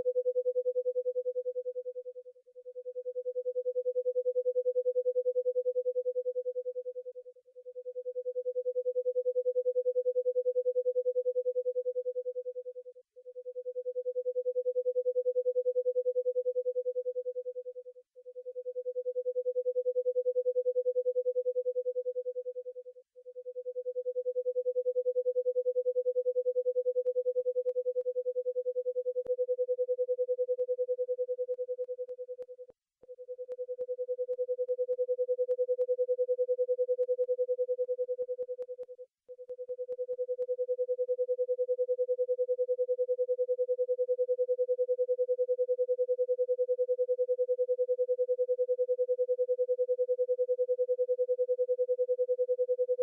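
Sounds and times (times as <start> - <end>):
pure sine tone: 0.0 - 53.0.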